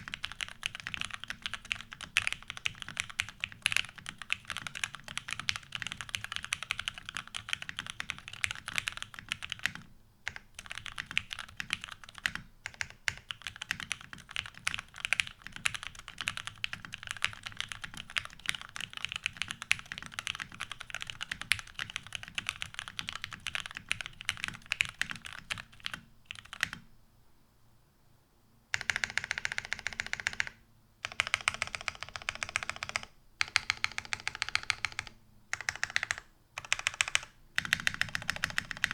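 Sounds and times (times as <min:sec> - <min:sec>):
typing on mechanical keyboard: 0:00.0 - 0:26.8, 0:28.8 - 0:38.9.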